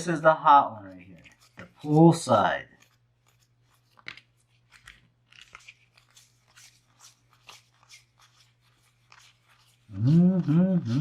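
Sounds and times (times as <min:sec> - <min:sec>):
trading cards flipping: 0:00.8 - 0:11.0.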